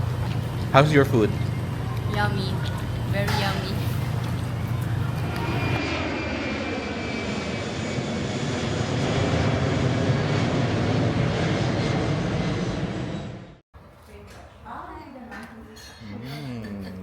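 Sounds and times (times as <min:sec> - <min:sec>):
jet engines roaring: 0:00.0 - 0:13.6.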